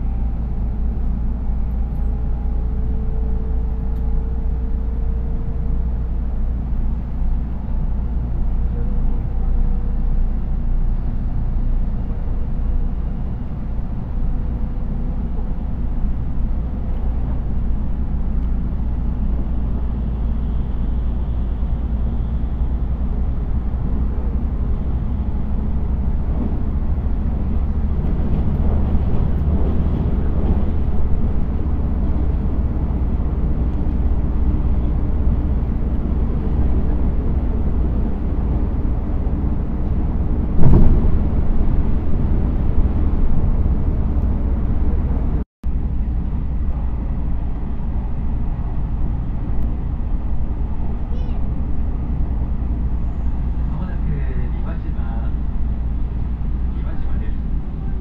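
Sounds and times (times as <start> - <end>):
passing freight train: 0.0 - 58.0
train running rumble: 0.0 - 58.0.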